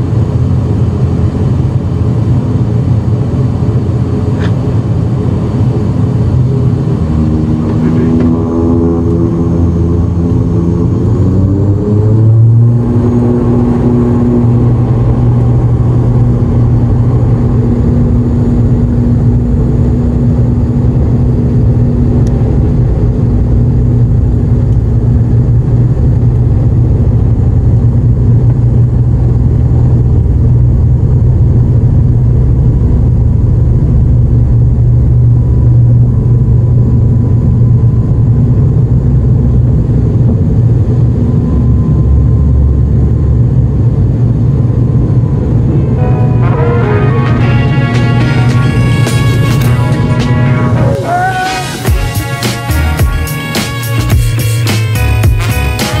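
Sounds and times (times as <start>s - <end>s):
turboprop engines droning: 0.0s - 56.0s.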